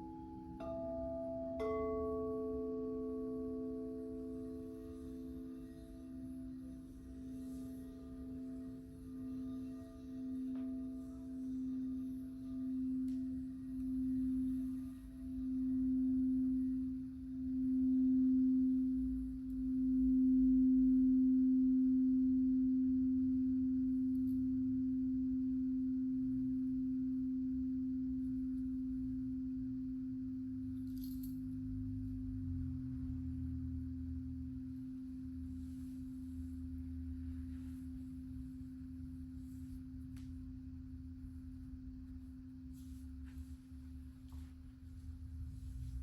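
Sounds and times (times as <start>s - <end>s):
singing bowl tone: 0.0s - 46.0s.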